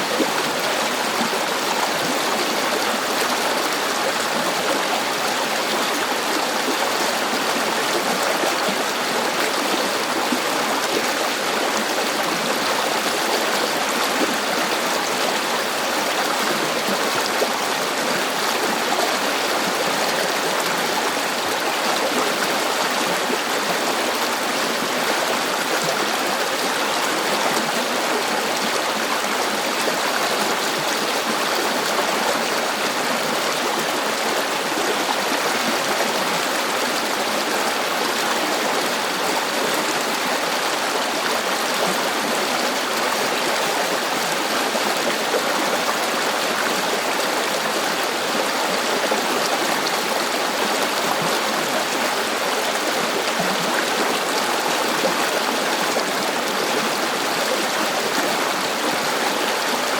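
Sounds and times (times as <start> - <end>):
stream water rushing and babbling: 0.0 - 59.9.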